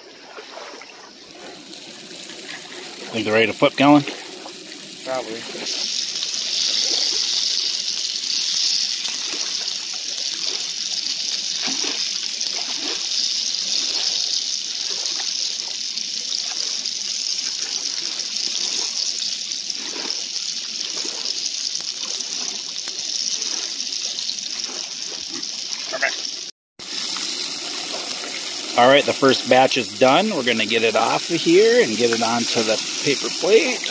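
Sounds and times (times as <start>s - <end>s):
fish frying in oil: 1.1s - 33.9s.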